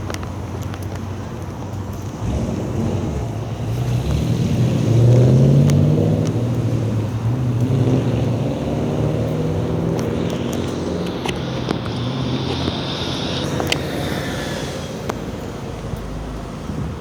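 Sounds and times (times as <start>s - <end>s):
large vehicle engine humming: 0.0s - 17.0s.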